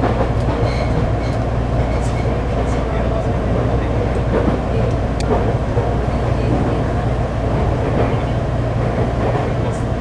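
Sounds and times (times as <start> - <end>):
train interior rumble: 0.0 - 10.0.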